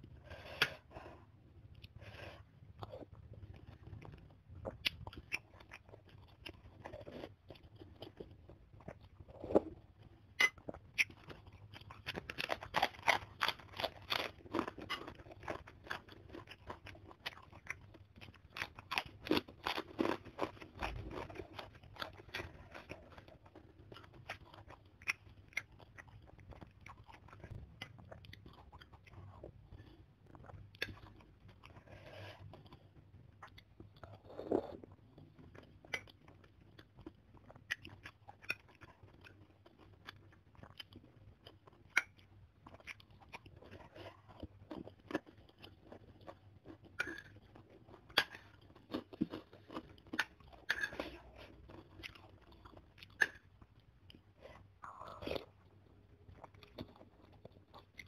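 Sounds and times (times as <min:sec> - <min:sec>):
cracker crunching and chewing: 0:00.2 - 0:58.0.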